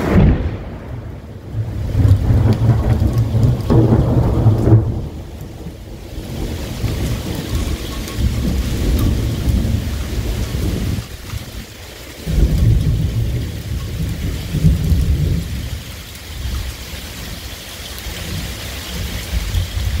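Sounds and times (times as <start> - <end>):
rolling thunder: 0.0 - 16.5
steady rain: 0.0 - 20.0.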